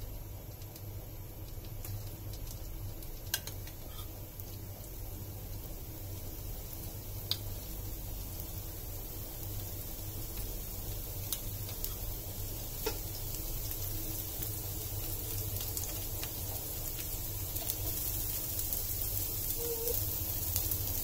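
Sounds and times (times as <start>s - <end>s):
batter sizzling on a hot griddle: 0.0s - 21.0s.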